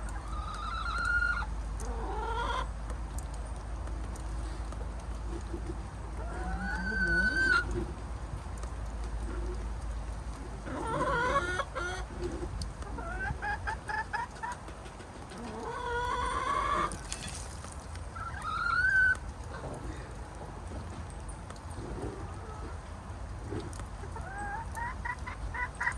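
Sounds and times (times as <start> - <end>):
hens clucking and calling: 0.0 - 3.0, 4.5 - 17.3, 18.1 - 20.4, 21.7 - 25.9.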